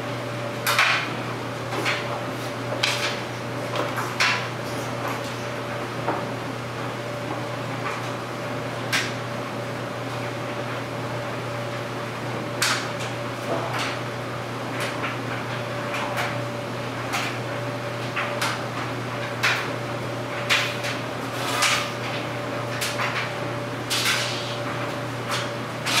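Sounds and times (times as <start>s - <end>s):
clothes dryer humming: 0.0s - 26.0s.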